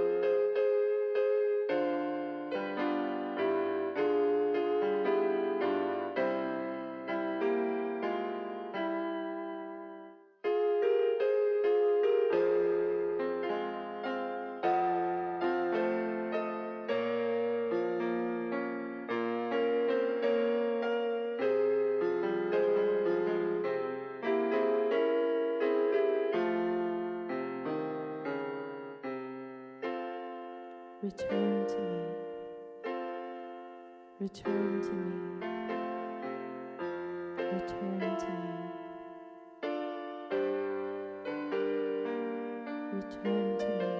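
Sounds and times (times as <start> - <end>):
slow piano-like keyboard music: 0.0 - 43.9.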